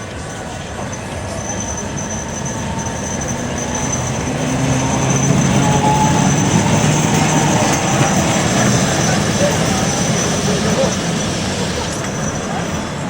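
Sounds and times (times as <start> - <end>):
electric tram on rails: 0.0 - 13.0.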